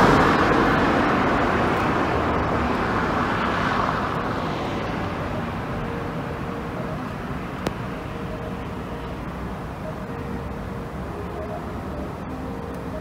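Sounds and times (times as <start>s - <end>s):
vehicle passing: 0.0s - 13.0s.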